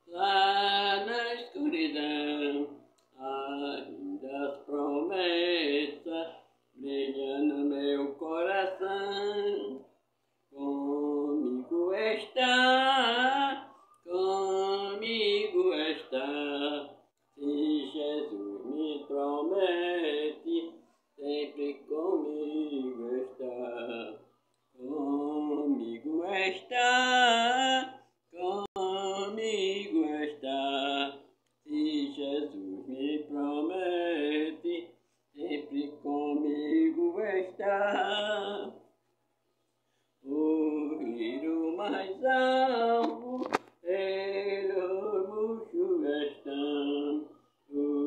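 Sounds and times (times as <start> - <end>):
elderly woman singing a hymn: 0.0 - 9.8, 10.6 - 24.2, 24.8 - 38.8, 40.2 - 48.0.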